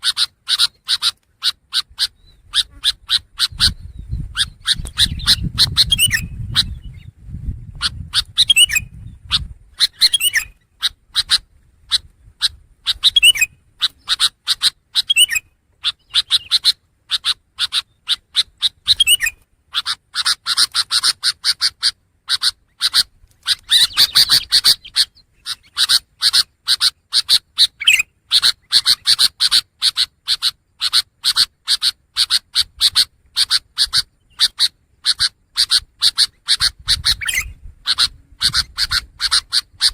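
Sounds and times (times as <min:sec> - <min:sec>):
bird singing scratchy chatter: 0:00.0 - 0:39.9.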